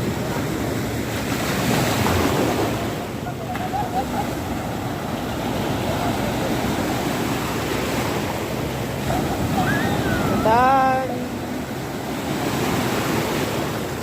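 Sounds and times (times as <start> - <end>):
ocean surf washing in: 0.0 - 14.0.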